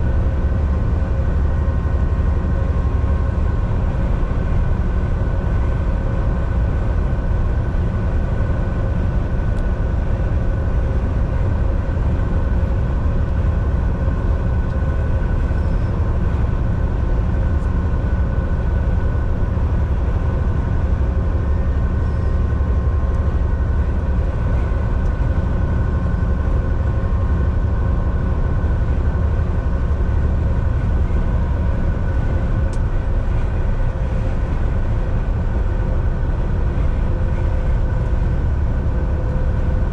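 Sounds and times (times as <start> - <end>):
faint steady whine: 0.0 - 39.9
road noise: 0.0 - 39.9
truck engine drone: 0.0 - 39.9.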